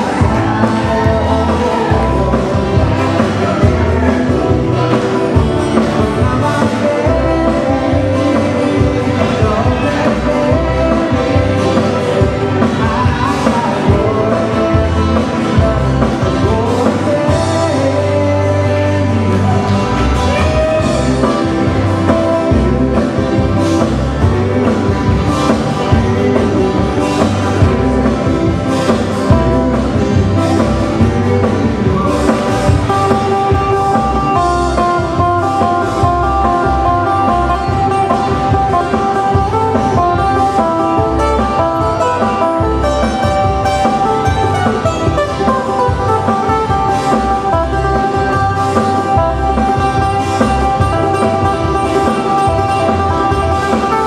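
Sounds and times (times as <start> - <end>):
band playing hawaiian music: 0.0 - 54.0.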